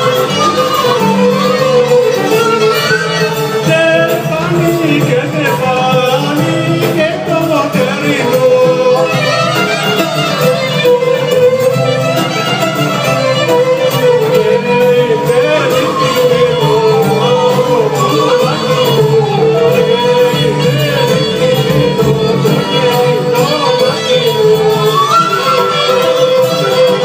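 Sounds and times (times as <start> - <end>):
folk dance music: 0.0 - 27.0.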